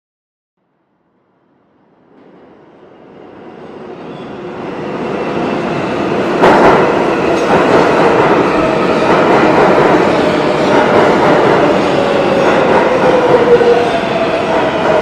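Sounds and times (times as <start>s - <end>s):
subway train wheels rushing: 1.3s - 15.0s.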